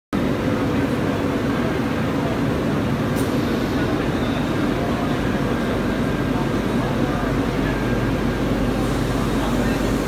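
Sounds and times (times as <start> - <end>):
exhibition hall crowd hubbub: 0.2 - 10.0.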